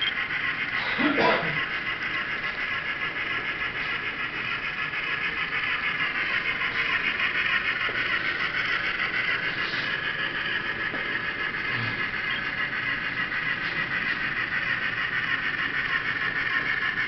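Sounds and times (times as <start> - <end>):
model train motor whirring: 0.0 - 17.0.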